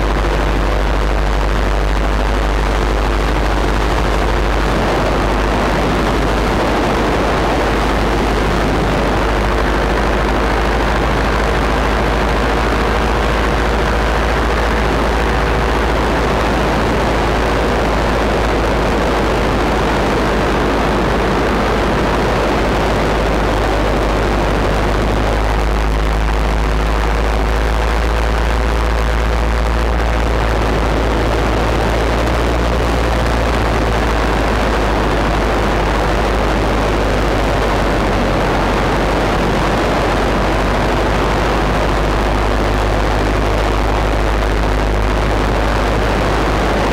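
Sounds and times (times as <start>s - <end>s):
paramotor engine and propeller: 0.0s - 46.9s
wind rumble on microphone: 0.0s - 46.9s.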